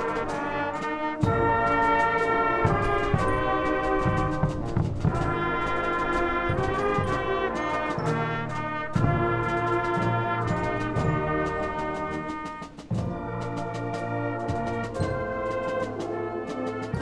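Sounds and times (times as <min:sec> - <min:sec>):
brass chords: 0:00.0 - 0:17.0
drum strokes: 0:00.0 - 0:17.0
timpani: 0:00.0 - 0:17.0.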